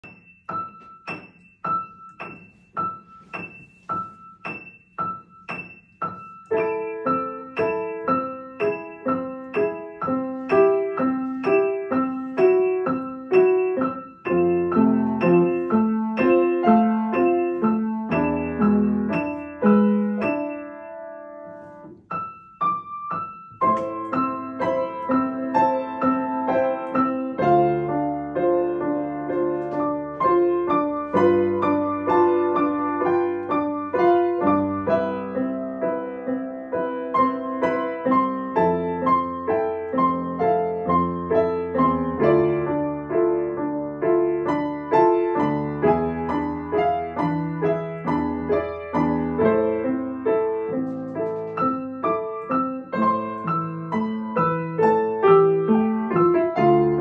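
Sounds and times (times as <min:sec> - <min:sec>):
piano duet: 0:00.0 - 0:57.0.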